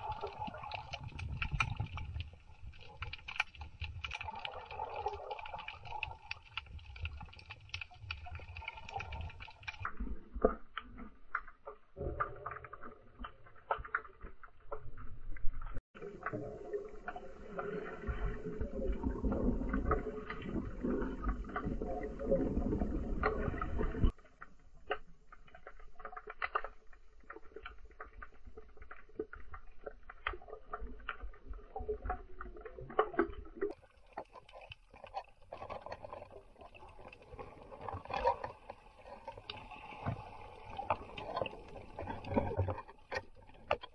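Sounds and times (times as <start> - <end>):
muffled underwater rumble: 0.0 - 43.9
underwater clicks and crackles: 0.0 - 43.9.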